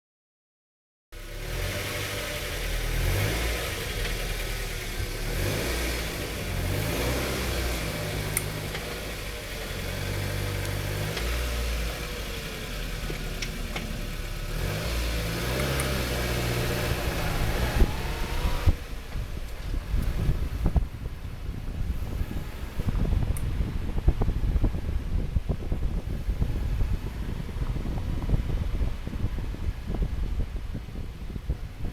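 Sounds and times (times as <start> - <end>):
engine ticking: 1.2 - 30.4
four-cylinder engine running: 1.2 - 31.9.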